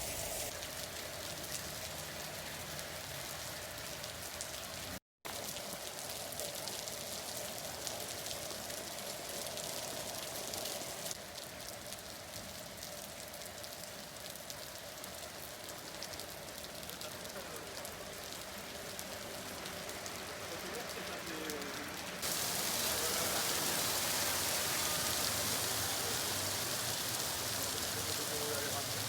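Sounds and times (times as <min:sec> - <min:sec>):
rain falling steadily: 0:00.0 - 0:29.0.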